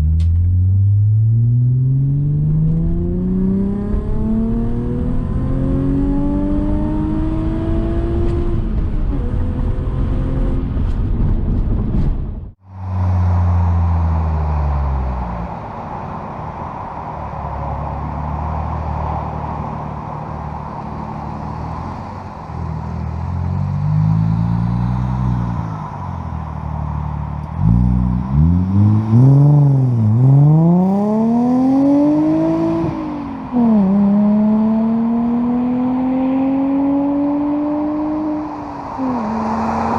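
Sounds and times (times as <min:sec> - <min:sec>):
car engine revving: 0:00.0 - 0:10.9, 0:17.8 - 0:39.9.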